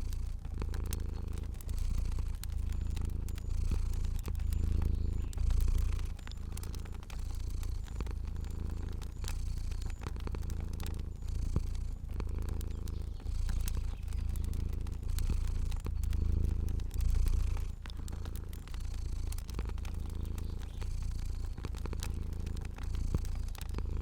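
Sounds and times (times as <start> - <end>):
cat purring: 0.0 - 24.0
fire popping and crackling: 0.0 - 24.0.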